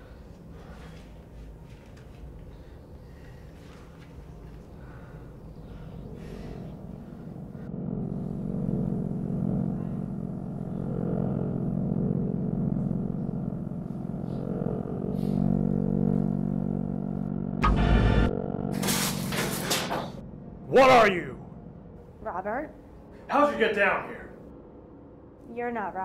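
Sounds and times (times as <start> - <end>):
low synthesizer drone: 0.0 - 26.0.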